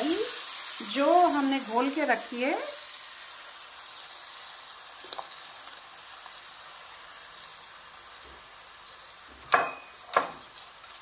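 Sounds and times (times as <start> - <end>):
ghee sizzling in a pan: 0.0 - 11.0.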